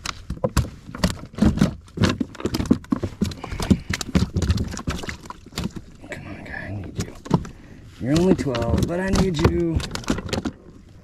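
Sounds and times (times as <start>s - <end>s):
fish flopping on kayak deck: 0.6s - 11.0s.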